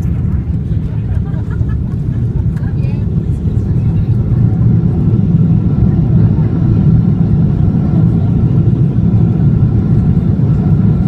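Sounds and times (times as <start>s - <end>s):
airliner cabin rumble on landing: 0.0s - 11.0s.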